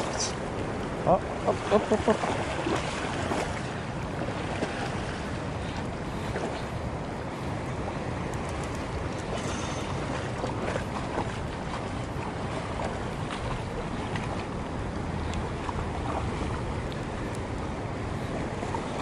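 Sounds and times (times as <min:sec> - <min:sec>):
shallow river current rushing: 0:00.0 - 0:19.0
wind rumble on microphone: 0:00.0 - 0:19.0.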